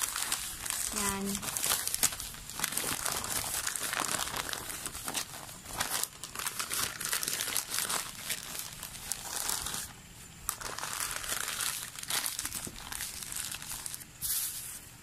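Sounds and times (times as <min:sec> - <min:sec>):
newspaper crinkling and rustling: 0:00.0 - 0:14.8.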